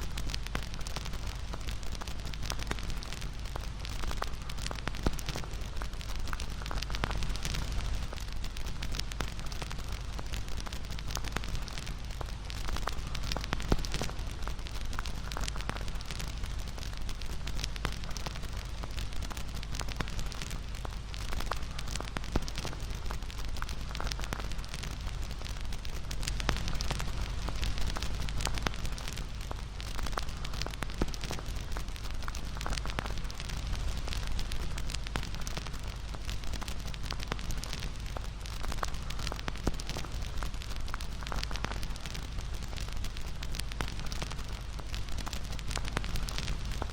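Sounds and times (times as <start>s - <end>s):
low sound of flames: 0.0s - 46.9s
burning wood popping and snapping: 0.2s - 46.9s.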